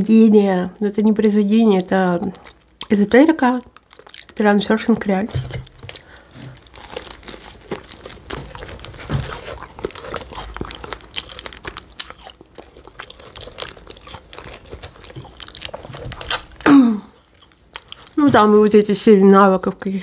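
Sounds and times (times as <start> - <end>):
chewing crunchy pastry: 0.8 - 18.7.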